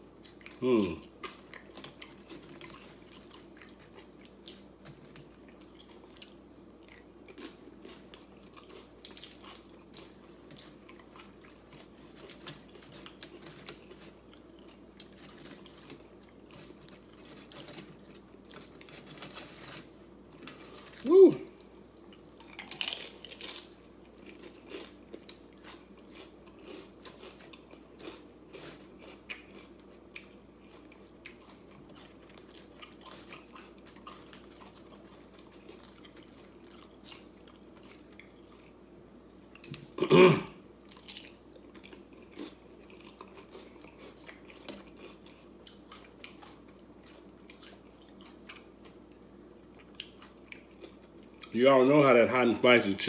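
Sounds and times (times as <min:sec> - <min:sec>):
crunchy chips chewing: 0:00.2 - 0:38.8, 0:40.8 - 0:52.1.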